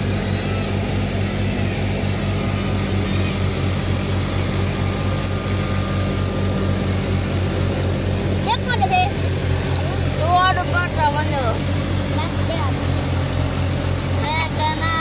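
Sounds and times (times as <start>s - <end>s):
thresher noise: 0.0s - 15.0s
tractor diesel engine running: 0.0s - 15.0s.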